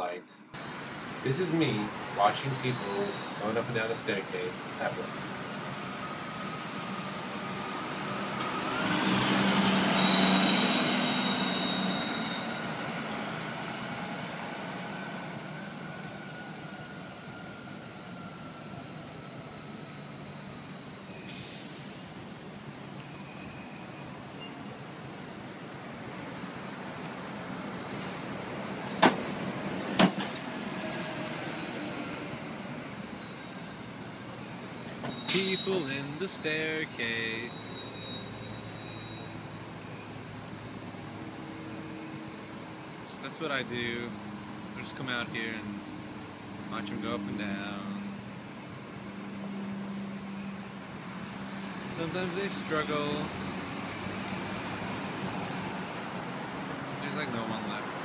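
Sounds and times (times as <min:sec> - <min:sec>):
bus passing: 0:00.0 - 0:58.0
road traffic noise: 0:00.0 - 0:58.0.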